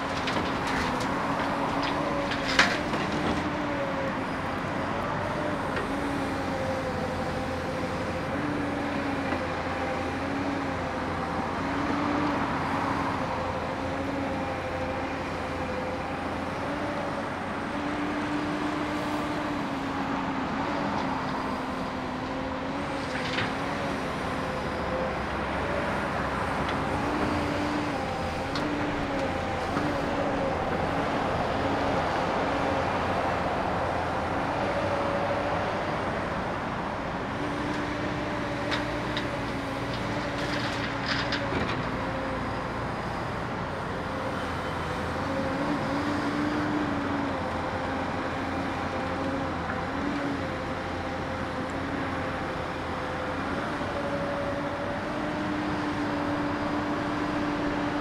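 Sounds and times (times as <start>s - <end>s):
excavator diesel and hydraulic drone: 0.0s - 58.0s.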